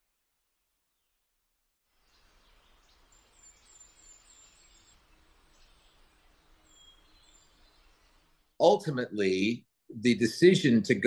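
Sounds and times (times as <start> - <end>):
faint room hiss: 2.0 - 11.0.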